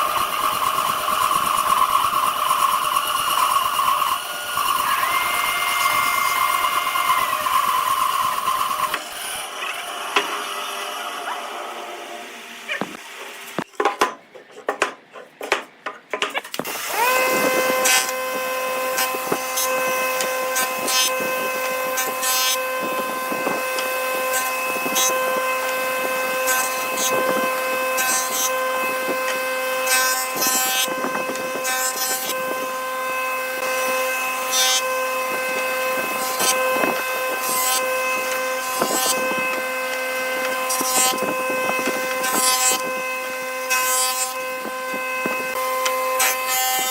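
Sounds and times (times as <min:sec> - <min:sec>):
tool rasping into wood: 0:00.0 - 0:09.2, 0:16.6 - 0:46.9
power tool whining: 0:00.0 - 0:13.7, 0:16.6 - 0:46.9.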